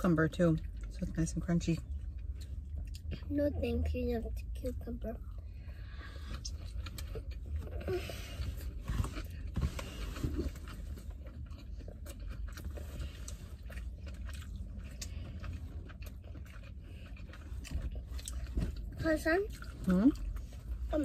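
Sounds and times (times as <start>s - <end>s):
low steady rumble: 0.0s - 21.0s
chewing and biting food: 0.5s - 3.3s, 6.2s - 21.0s.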